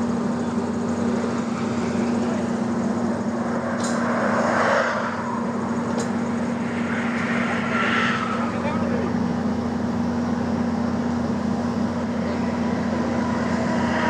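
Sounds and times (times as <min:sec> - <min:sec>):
heavy engine humming: 0:00.0 - 0:14.0.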